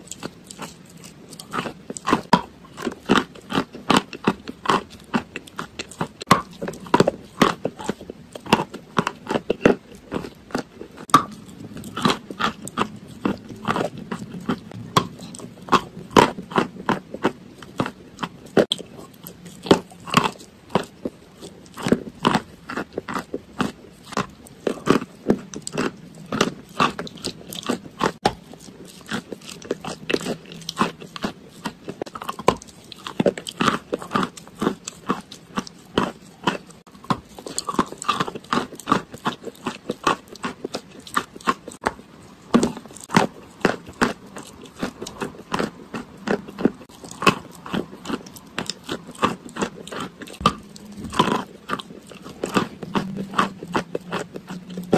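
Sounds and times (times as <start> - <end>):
chewing: 0.0 - 54.9.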